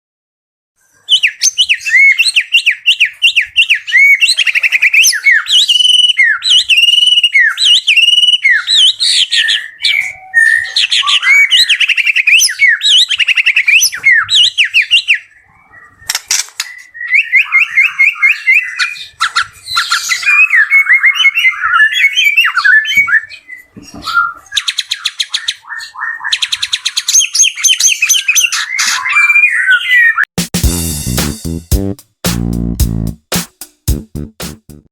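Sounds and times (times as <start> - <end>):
bird singing whistled song: 1.0 - 30.3.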